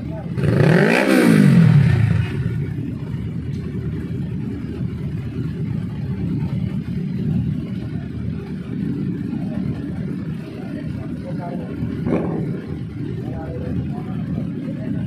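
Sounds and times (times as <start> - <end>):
motorcycles idling: 0.0 - 15.0.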